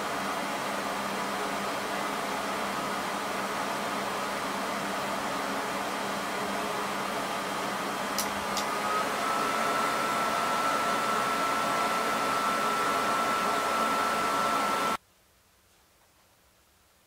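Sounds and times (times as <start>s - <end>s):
fan running with rushing hiss: 0.0s - 15.0s.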